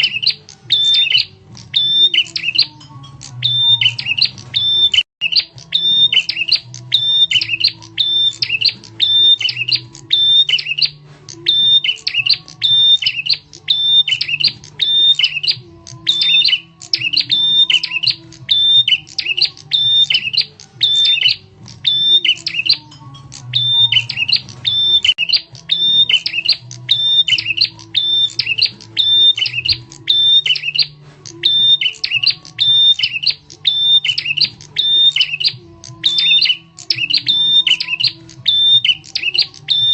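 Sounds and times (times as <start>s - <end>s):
bird calling sharp notes: 0.0s - 39.9s.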